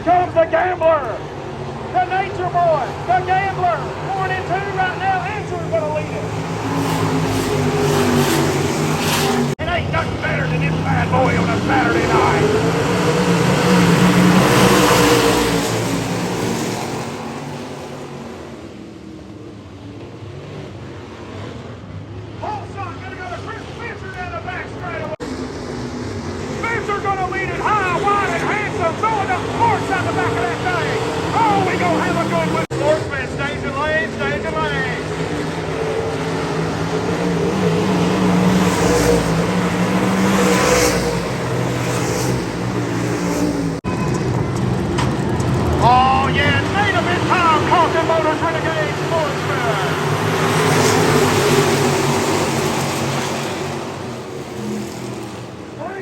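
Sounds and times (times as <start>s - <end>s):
steady engine drone: 0.0s - 20.1s, 21.9s - 56.0s
race cars passing at speed: 0.0s - 56.0s.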